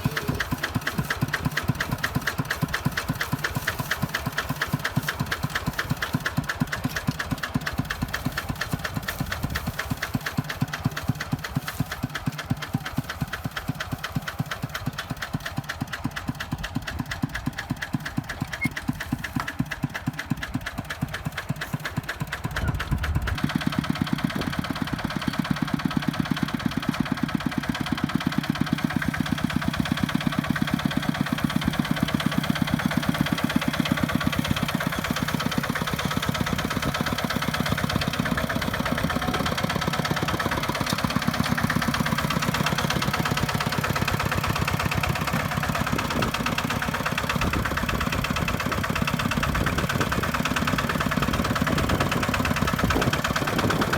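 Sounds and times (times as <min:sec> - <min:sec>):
diesel engine chugging: 0:00.0 - 0:53.9.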